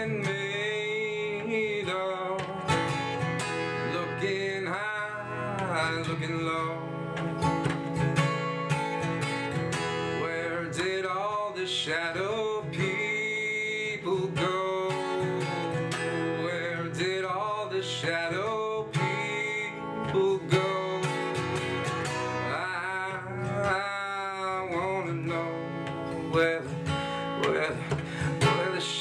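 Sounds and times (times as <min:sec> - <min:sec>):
man singing: 0:00.0 - 0:08.8, 0:10.1 - 0:29.0
acoustic guitar strumming: 0:00.0 - 0:29.0.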